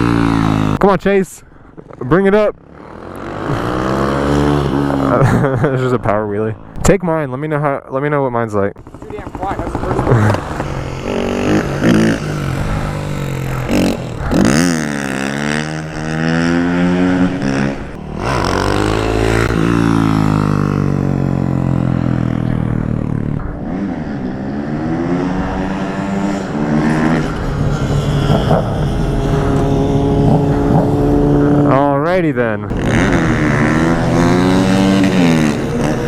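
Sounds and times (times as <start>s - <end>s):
motorcycle engine revving: 0.0s - 0.9s, 1.8s - 5.7s, 8.8s - 36.0s.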